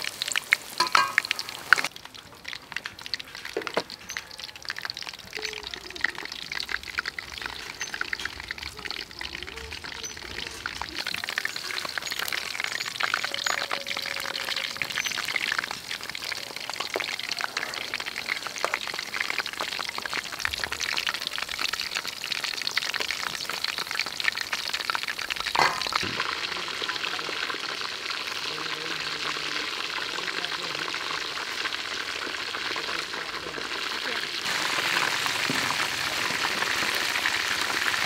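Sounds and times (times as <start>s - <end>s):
oil sizzling and crackling: 0.0s - 38.0s.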